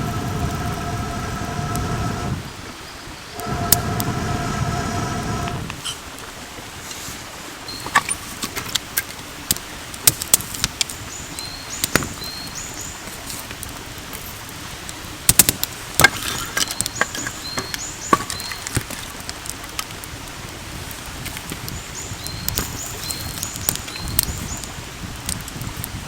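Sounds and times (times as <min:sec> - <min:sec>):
campfire crackling and popping: 0:00.0 - 0:02.8, 0:03.4 - 0:26.0.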